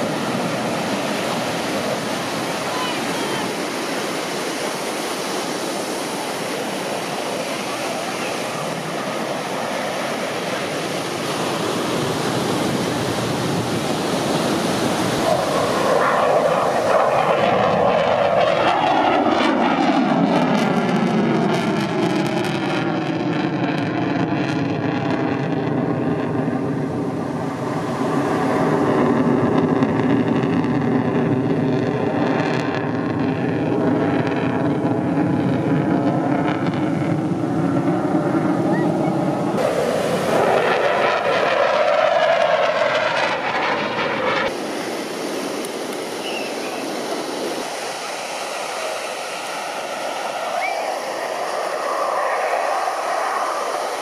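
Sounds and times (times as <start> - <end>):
airplane flying past: 0.0 - 54.0.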